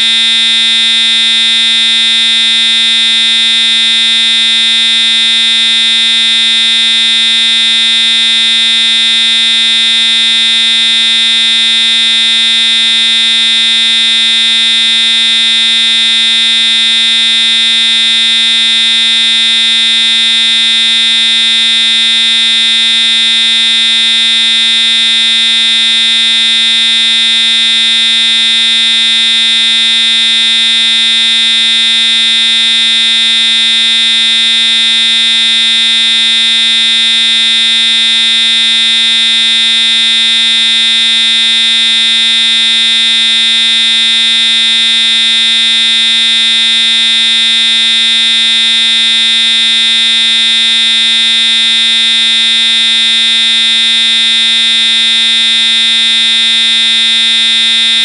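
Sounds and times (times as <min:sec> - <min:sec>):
fire alarm horn buzzing: 0:00.0 - 0:58.0.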